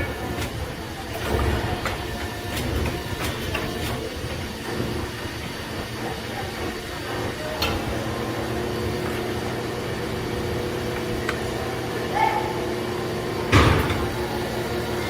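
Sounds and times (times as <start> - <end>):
metalworking machinery humming: 0.0 - 15.0.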